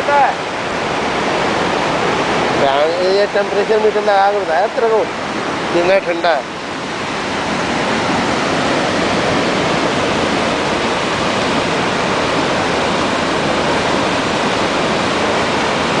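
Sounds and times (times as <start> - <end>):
water rushing through sluice gates: 0.0 - 16.0.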